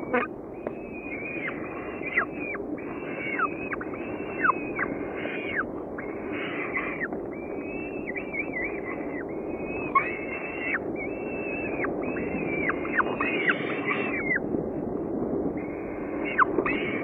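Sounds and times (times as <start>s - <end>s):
falcon chick begging calls: 0.0s - 14.4s, 15.6s - 17.0s
low background rush: 0.0s - 17.0s.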